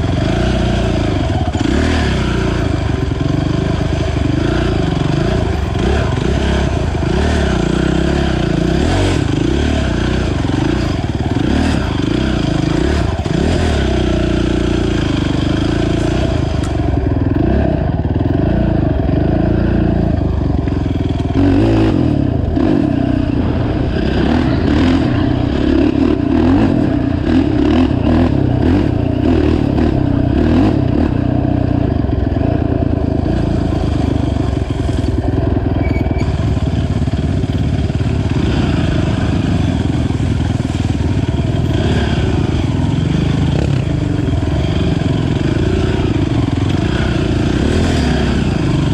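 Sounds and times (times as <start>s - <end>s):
quad engine running: 0.0s - 48.9s.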